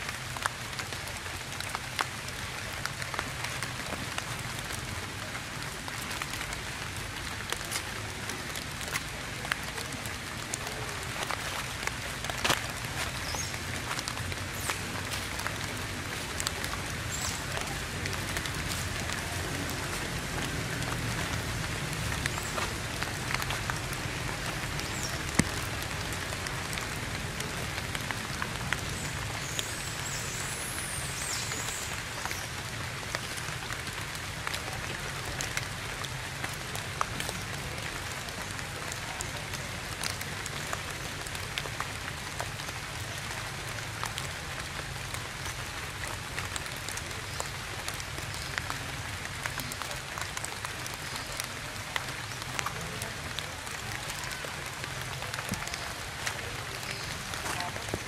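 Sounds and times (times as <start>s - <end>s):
steady rainfall: 0.0s - 58.0s
raindrop ticks: 0.1s - 58.0s.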